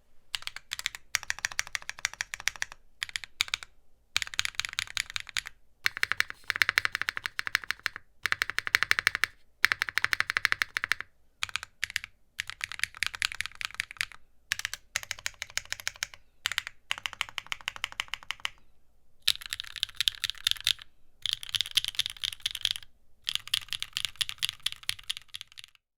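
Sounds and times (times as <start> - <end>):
fast typing on mechanical keyboard: 0.3 - 18.6, 19.3 - 25.8.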